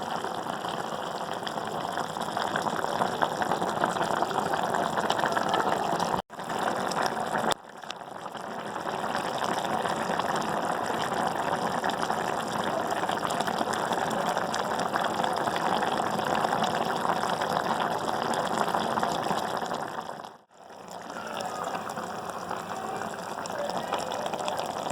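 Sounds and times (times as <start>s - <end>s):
liquid boiling in pot: 0.0s - 24.9s.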